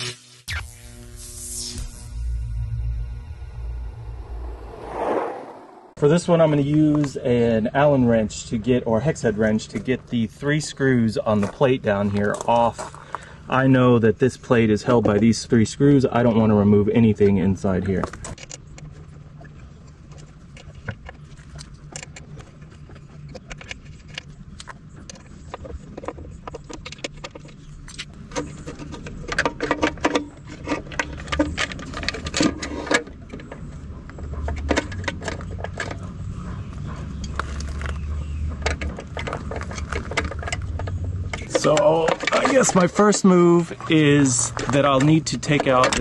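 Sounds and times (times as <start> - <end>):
low traffic hum: 2.3 - 46.0.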